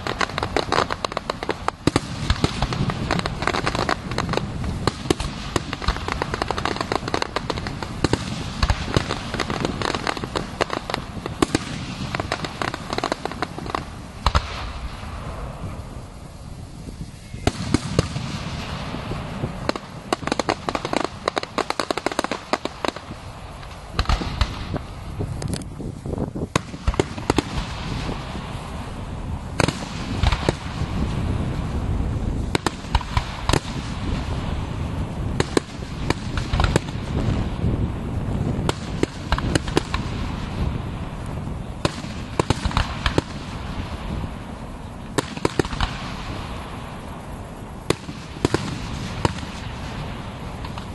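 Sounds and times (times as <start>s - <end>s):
fireworks booming: 0.0s - 50.9s
fireworks crackling: 0.0s - 50.9s.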